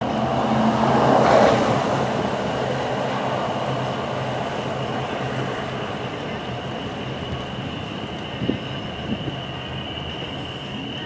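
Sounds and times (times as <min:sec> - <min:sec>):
road noise inside vehicle: 0:00.0 - 0:11.0.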